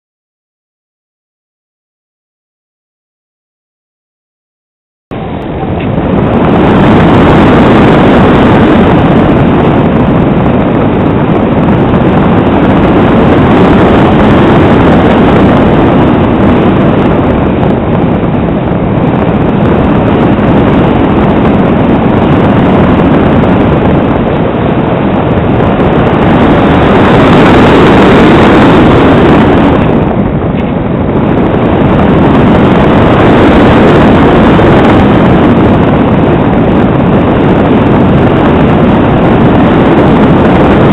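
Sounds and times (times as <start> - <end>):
airflow rushing over microphone: 5.1 - 40.9.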